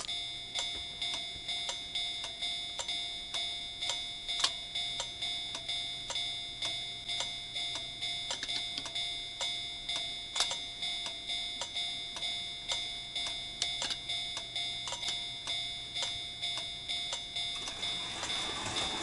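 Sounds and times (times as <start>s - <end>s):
railroad crossing warning bell: 0.0s - 19.0s.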